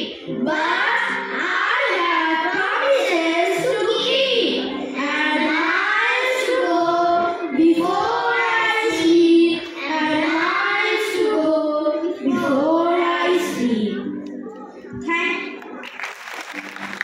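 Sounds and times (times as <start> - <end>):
children singing through microphones: 0.0 - 14.1.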